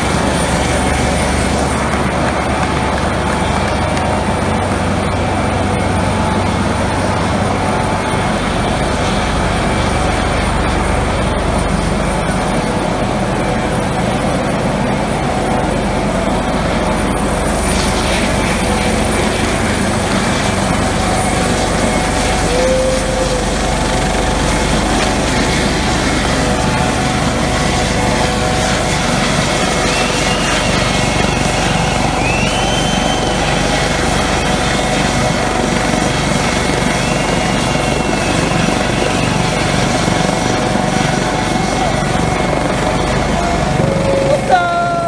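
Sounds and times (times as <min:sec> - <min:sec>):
helicopter turbines and rotor: 0:00.0 - 0:45.0
faint high whine: 0:04.8 - 0:45.0.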